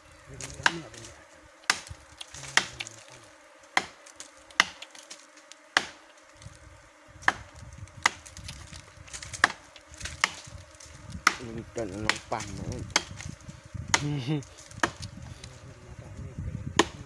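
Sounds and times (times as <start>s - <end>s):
bees buzzing: 0.0s - 17.0s
knife chopping into tree trunk: 0.4s - 6.6s, 7.2s - 15.5s, 16.8s - 17.0s.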